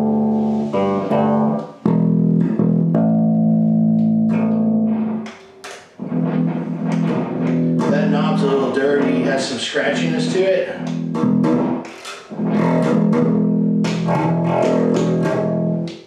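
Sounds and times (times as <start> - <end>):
electric bass notes through amplifier: 0.0 - 5.3, 6.0 - 16.0.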